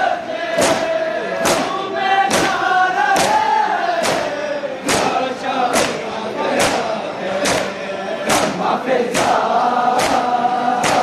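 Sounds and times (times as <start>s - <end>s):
crowd chanting a lament: 0.0s - 11.0s
men beating their chests: 0.0s - 11.0s.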